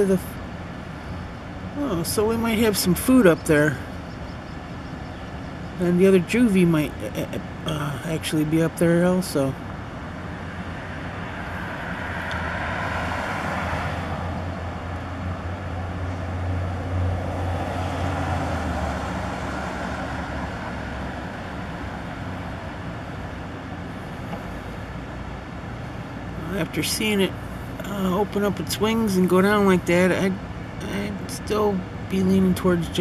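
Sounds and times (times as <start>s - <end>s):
road traffic noise: 0.0s - 33.0s
vehicle engine humming: 0.0s - 33.0s.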